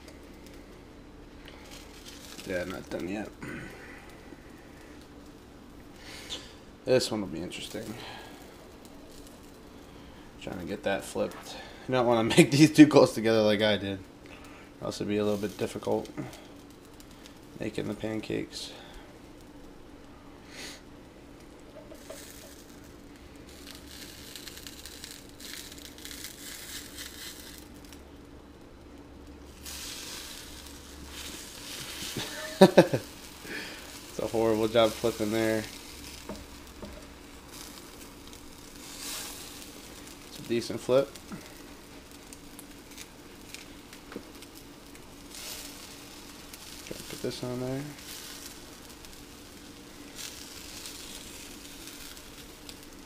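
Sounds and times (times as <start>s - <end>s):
pancake batter sizzling: 0.0s - 53.0s
small crackles: 0.0s - 53.0s.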